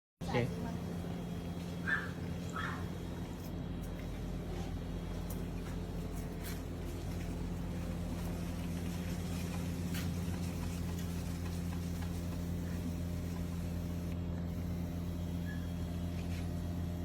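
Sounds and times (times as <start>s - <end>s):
low mechanical hum: 0.2s - 17.0s.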